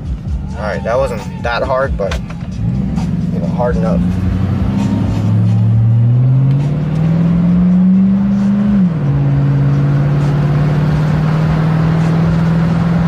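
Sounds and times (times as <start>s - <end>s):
engine accelerating: 0.0s - 13.0s.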